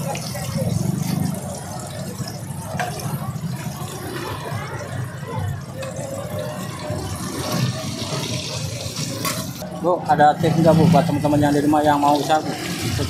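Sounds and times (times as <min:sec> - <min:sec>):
oil sizzling and bubbling in pan: 0:00.0 - 0:09.7, 0:10.6 - 0:13.0.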